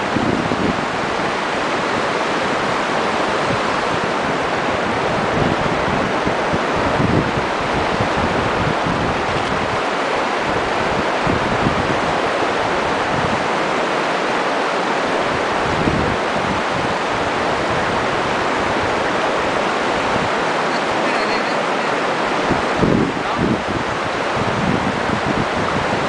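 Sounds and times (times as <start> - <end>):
river rushing over rocks: 0.0 - 26.0
wind buffeting microphone: 0.0 - 26.0.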